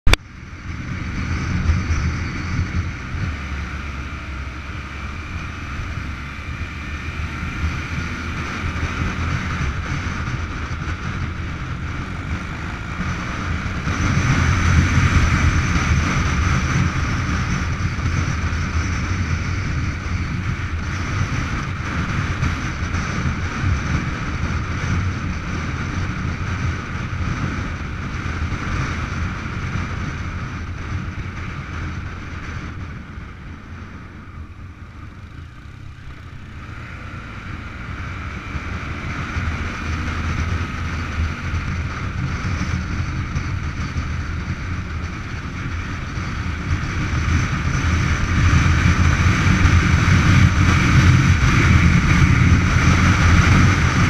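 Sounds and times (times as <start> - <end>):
motorcycle engine running: 0.0 - 54.0
wind on microphone: 0.0 - 54.0.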